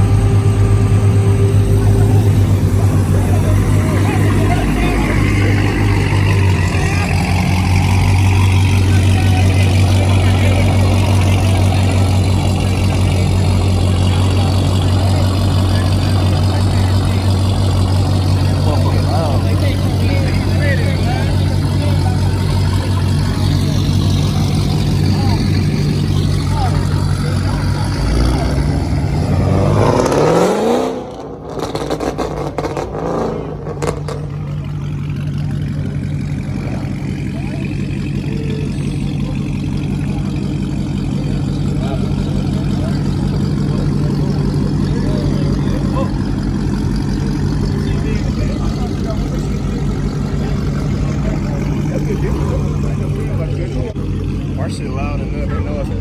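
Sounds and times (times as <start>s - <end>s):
car engine running steadily: 0.0s - 56.0s.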